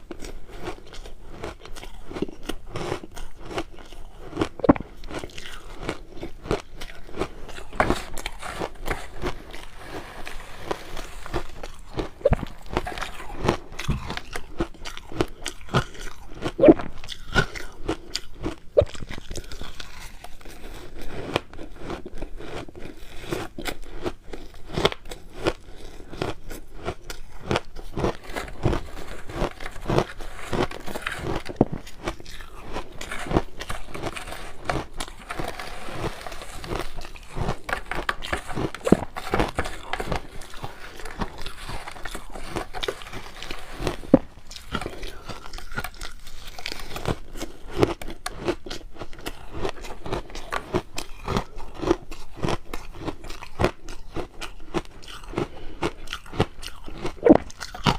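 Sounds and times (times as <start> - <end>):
person chewing ice: 0.0 - 57.9.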